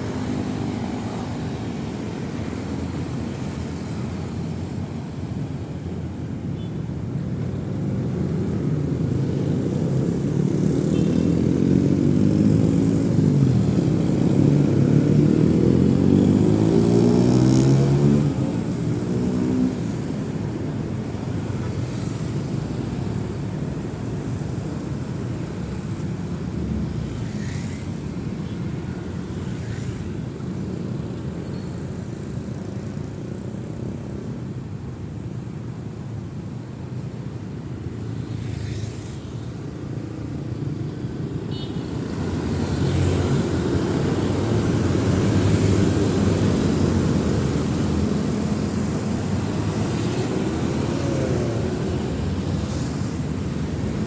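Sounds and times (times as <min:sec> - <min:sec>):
cars and motorcycles passing: 0:00.0 - 0:54.0.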